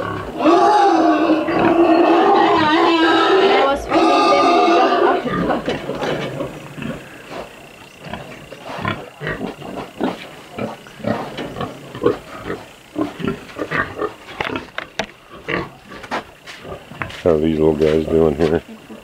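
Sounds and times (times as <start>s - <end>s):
pigs grunting: 0.0s - 19.0s.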